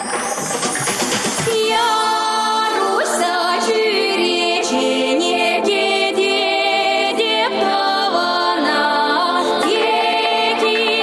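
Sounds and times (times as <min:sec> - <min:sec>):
pop song with woman singing: 0:01.4 - 0:11.0.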